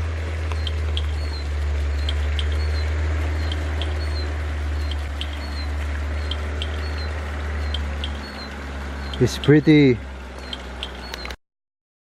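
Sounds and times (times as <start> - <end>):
bird chirping: 0.5 - 11.4.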